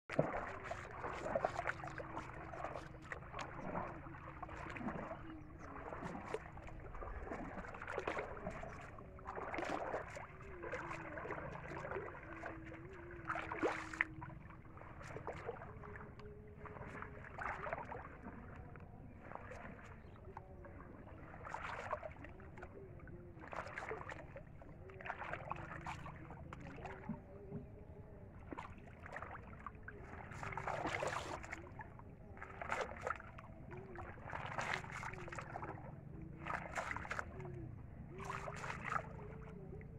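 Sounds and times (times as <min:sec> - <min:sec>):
wading through shallow water: 0:00.0 - 0:39.9
water splashing and sloshing: 0:00.0 - 0:39.9
faint wavering hum: 0:00.1 - 0:39.9
net dragged through water: 0:00.1 - 0:39.9.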